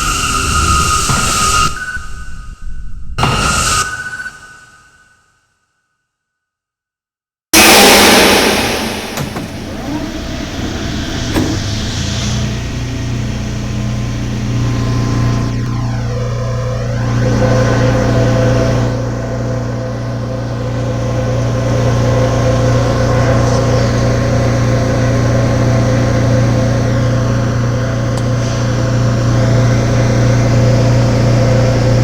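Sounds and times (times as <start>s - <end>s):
subway train running: 0.0s - 4.4s, 7.6s - 32.0s.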